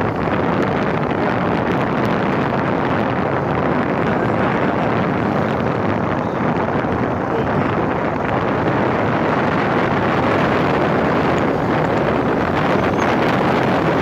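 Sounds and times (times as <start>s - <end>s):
motorcycle engines running: 0.0s - 14.0s
wind buffeting microphone: 0.0s - 14.0s.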